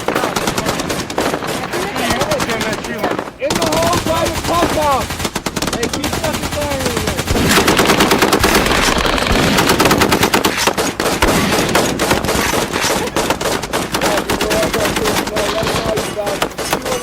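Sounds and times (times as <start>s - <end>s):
toy blasters firing rapidly: 0.0s - 17.0s.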